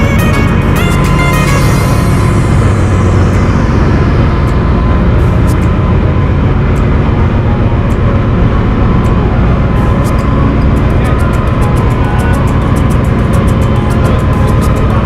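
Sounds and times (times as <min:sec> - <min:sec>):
engine room machinery drone: 0:00.0 - 0:15.0.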